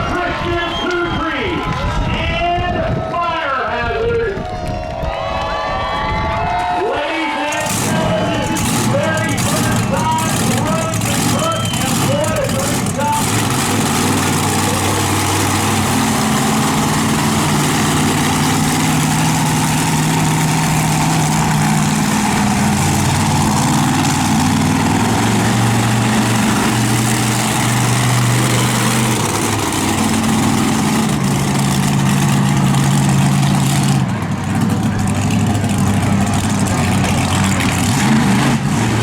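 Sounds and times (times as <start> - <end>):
monster truck engine running: 0.0 - 5.1, 5.8 - 39.0.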